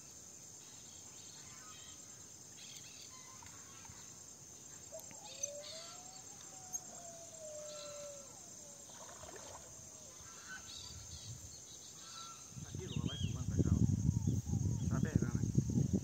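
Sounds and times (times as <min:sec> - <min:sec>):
high insect trill: 0:00.0 - 0:16.0.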